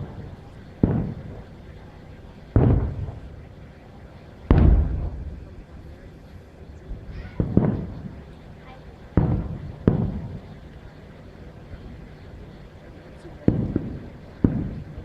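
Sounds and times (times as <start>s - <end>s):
firework shells booming: 0.0s - 12.5s, 13.3s - 15.0s.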